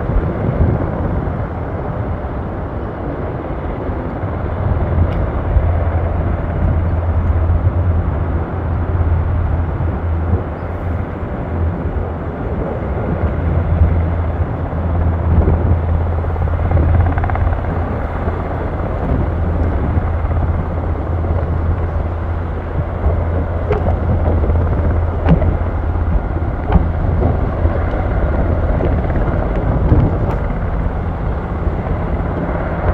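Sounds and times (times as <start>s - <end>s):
helicopter rotor and turbine drone: 0.0s - 32.9s.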